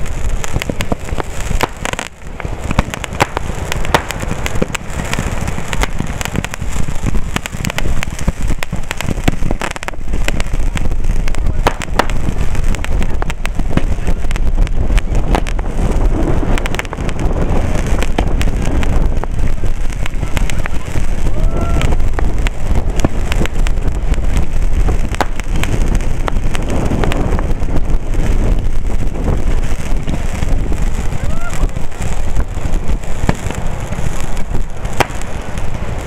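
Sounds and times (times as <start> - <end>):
fireworks cracking and popping: 0.0 - 36.0
low rumble: 0.0 - 36.0.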